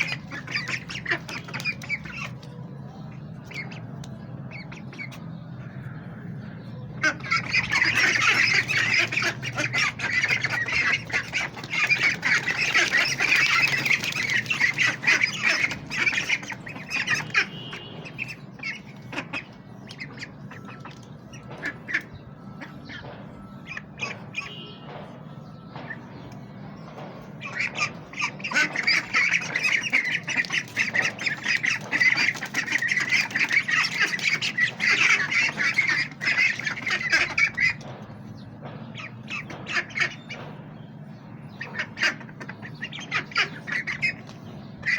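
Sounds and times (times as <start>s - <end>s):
ducks quacking: 0.0s - 44.9s.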